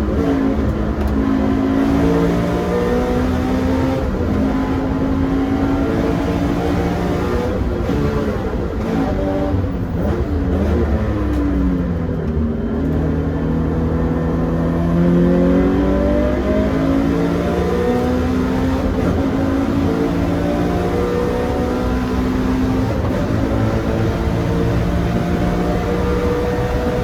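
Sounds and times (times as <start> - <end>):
car engine revving hard: 0.0 - 11.8, 13.1 - 27.0.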